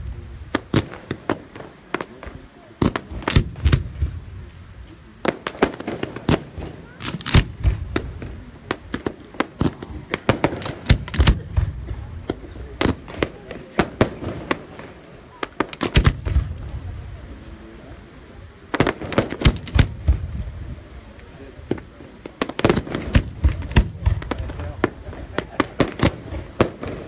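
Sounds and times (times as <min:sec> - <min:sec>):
fireworks bangs and crackling: 0:00.0 - 0:27.0.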